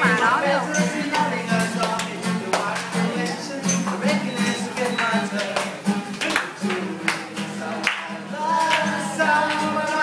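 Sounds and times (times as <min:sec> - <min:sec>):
acoustic guitar strumming: 0:00.0 - 0:10.0
person singing: 0:00.0 - 0:10.0.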